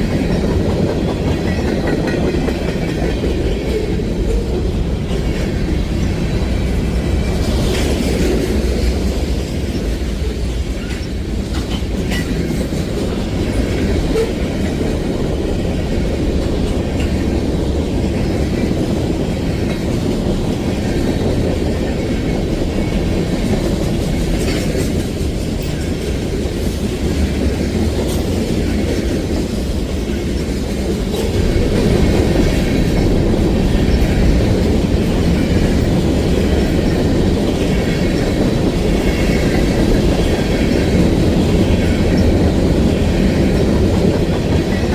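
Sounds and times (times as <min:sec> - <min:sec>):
freight train rolling past: 0:00.0 - 0:44.9.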